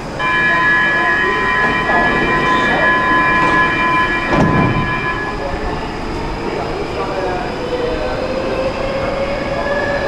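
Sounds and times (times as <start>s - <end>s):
metro train rumbling: 0.0s - 10.0s.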